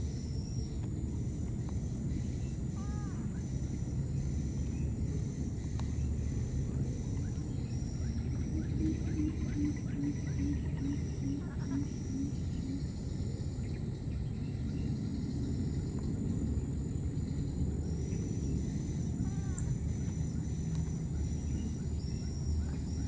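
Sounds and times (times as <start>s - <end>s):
faint pulsing high buzz: 0.0s - 23.0s
steady low rumble: 0.0s - 23.0s.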